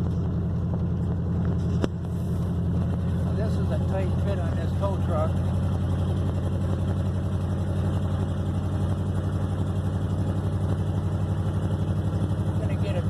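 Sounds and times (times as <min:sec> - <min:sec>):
vehicle engine and exhaust drone: 0:00.0 - 0:13.0.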